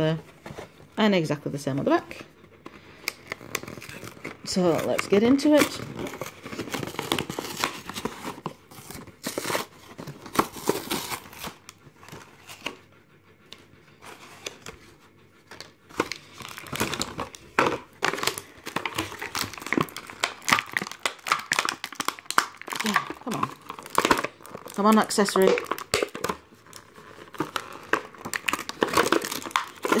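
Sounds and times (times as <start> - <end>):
plastic packaging crinkling: 2.7 - 12.8, 15.6 - 30.0.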